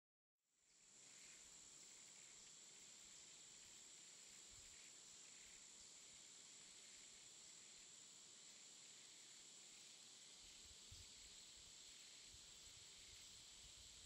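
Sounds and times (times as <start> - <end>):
high-pitched insect drone: 0.7 - 14.0.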